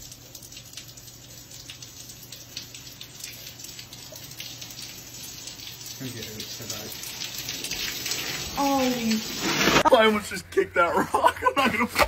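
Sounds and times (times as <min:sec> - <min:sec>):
water pouring from ceiling: 0:00.0 - 0:10.0.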